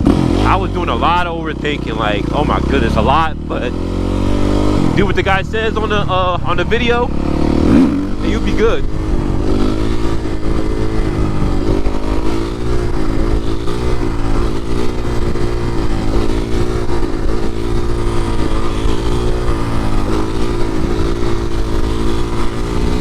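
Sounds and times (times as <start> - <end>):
low wind rumble: 0.0 - 23.0
motorcycle engine revving: 0.0 - 23.0.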